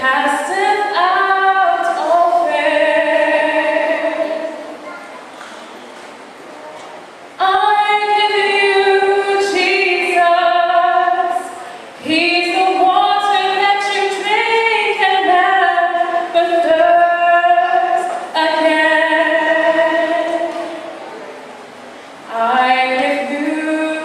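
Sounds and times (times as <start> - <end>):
woman singing gospel: 0.0 - 4.6, 7.4 - 20.8, 22.3 - 24.0.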